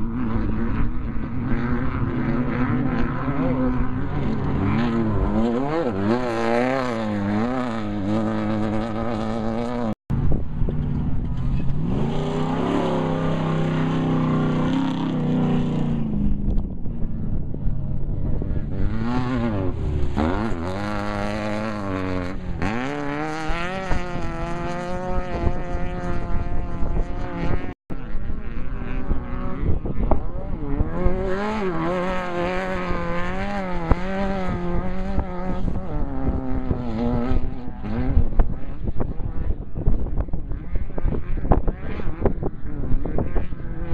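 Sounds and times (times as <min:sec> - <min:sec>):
race engines revving and passing: 0:00.0 - 0:43.9.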